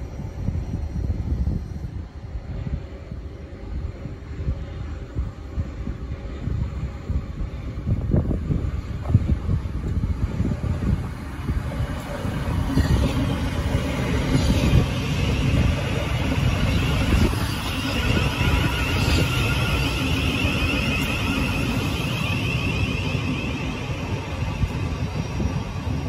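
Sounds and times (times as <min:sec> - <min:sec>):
high whine: 0:00.0 - 0:26.0
train wheels rumbling on rails: 0:00.0 - 0:26.0.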